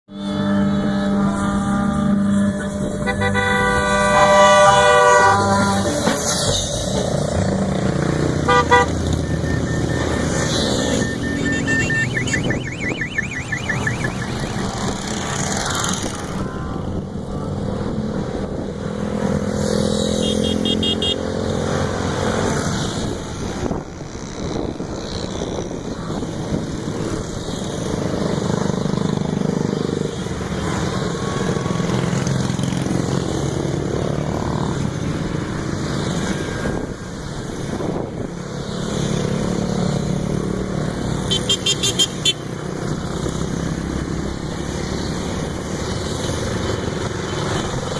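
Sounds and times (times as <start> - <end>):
many motorcycle engines running: 0.1 - 47.9.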